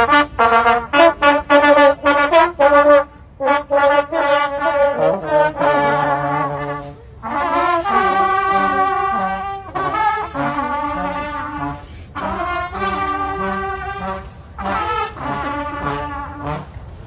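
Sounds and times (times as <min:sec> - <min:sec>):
brass music: 0:00.0 - 0:17.0.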